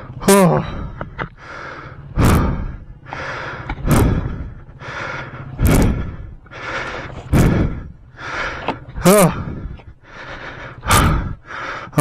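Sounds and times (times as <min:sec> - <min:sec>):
person panting hard: 0:00.0 - 0:12.0.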